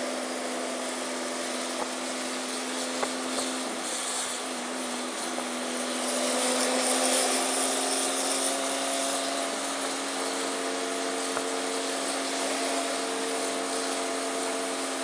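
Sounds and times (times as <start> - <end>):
scooter engine droning: 0.0 - 15.0
wind and road noise: 0.0 - 15.0.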